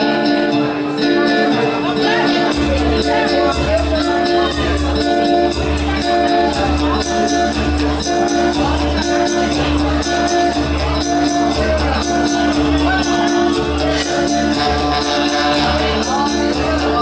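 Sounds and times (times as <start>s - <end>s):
keyboard music with programmed beat: 0.0s - 17.0s
man singing into a microphone: 0.0s - 17.0s.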